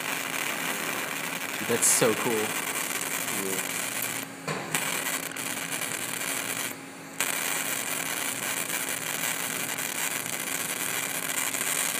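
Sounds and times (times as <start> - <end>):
electric arc hissing: 0.0 - 11.9.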